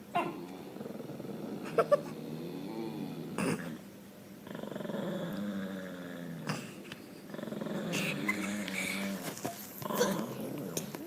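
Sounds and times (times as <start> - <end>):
dogs growling: 0.1 - 11.0.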